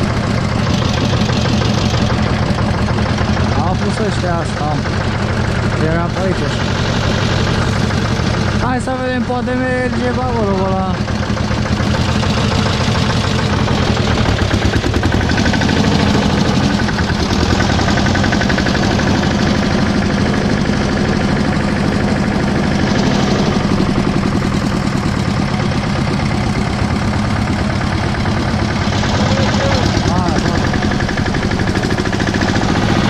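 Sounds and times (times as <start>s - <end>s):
tractor engine knocking: 0.0s - 33.0s.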